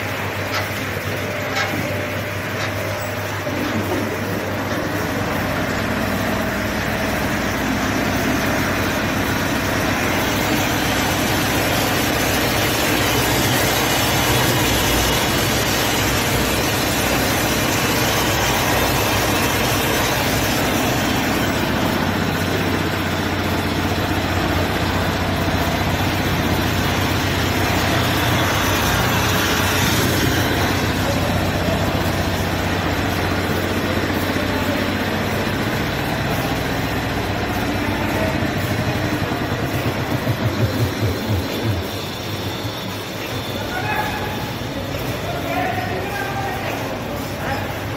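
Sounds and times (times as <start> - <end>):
roaster machine hum: 0.0 - 47.9.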